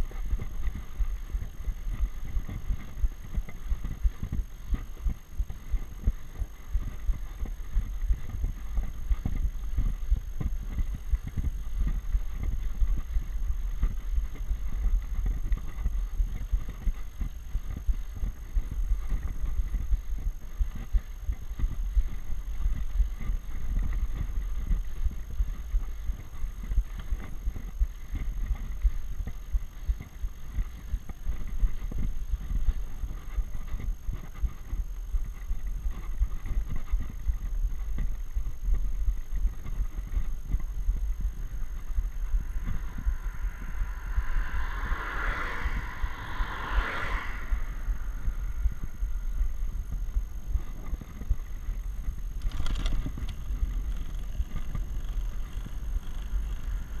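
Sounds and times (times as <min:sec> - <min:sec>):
road vibration rumble: 0:00.0 - 0:57.0
wind buffeting microphone: 0:00.0 - 0:57.0.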